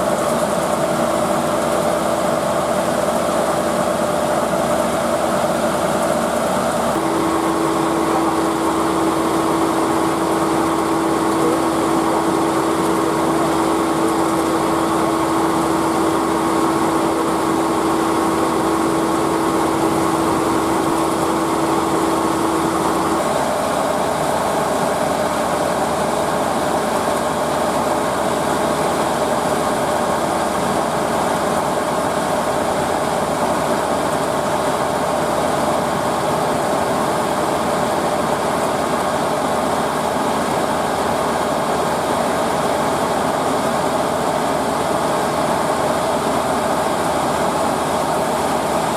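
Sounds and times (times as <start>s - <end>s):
constant machine whine: 0.0s - 48.9s
farm machinery engine running: 0.0s - 48.9s.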